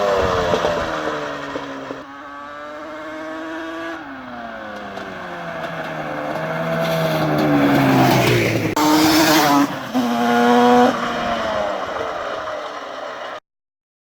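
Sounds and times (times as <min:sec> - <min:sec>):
two-stroke motorcycle engine revving: 0:00.0 - 0:04.0, 0:04.6 - 0:12.1.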